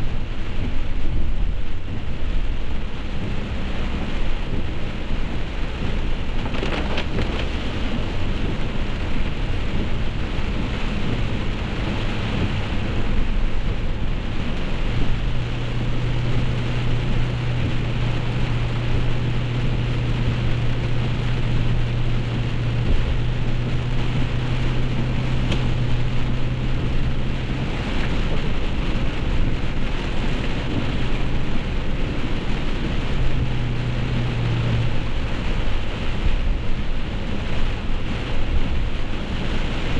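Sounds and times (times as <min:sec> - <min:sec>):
engine and road noise hum: 0:00.0 - 0:39.9
heavy rain pattering on car: 0:00.0 - 0:39.9.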